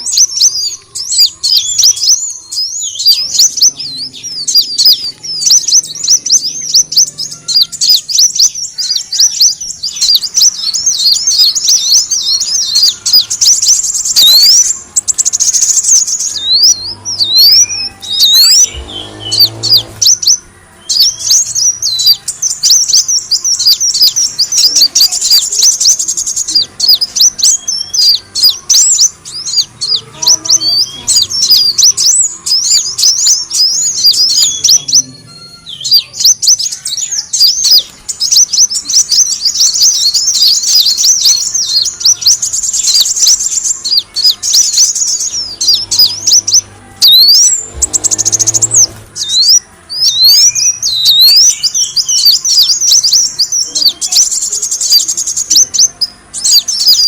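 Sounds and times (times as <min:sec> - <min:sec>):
sunbird chirping and twittering: 0:00.0 - 0:57.0.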